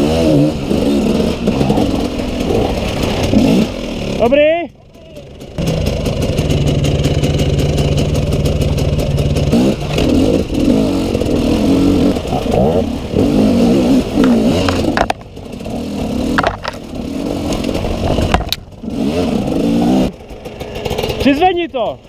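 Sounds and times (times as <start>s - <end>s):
dirt bike engine revving: 0.0s - 21.7s.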